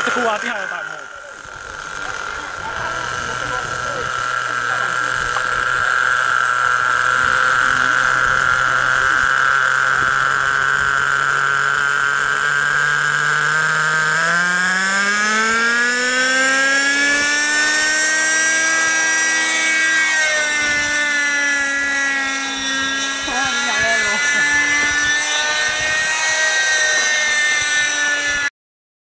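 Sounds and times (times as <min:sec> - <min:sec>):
model helicopter engine revving: 0:00.0 - 0:28.5.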